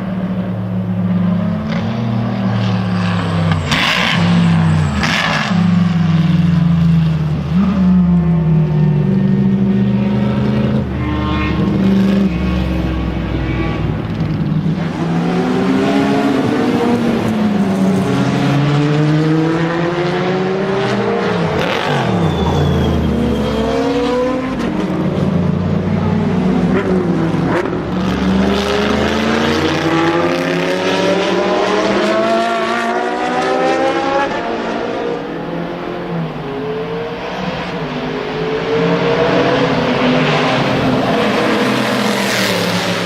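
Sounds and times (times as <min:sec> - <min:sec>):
car engine accelerating hard: 0:00.0 - 0:43.0.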